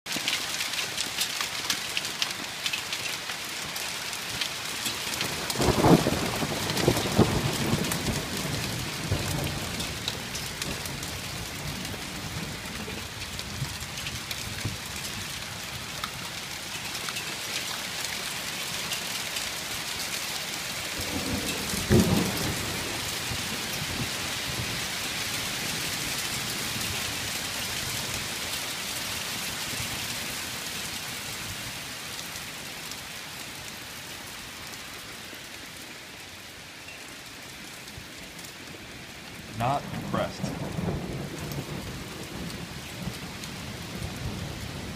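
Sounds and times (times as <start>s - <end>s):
hail on wood and glass: 0.1s - 35.0s, 37.6s - 44.9s.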